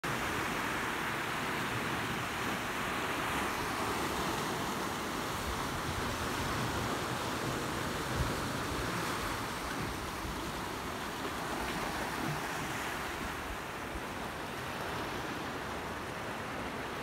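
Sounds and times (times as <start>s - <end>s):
waves washing over rocks: 0.1s - 17.0s.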